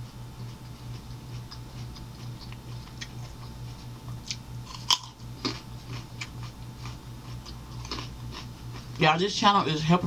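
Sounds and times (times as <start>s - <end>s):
steady low hum: 0.0s - 10.0s
carrots crunching: 0.6s - 9.0s.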